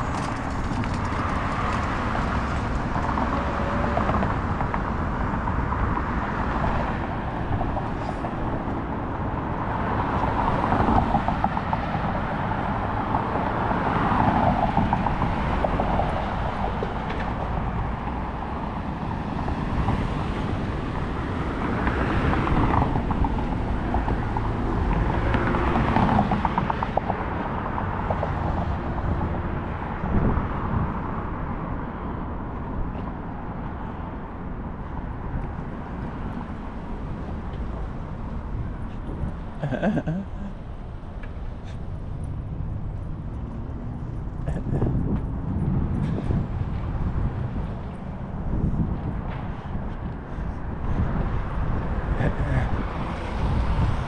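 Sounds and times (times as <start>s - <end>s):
road traffic: 0.0s - 54.0s
vehicles passing: 0.0s - 54.0s.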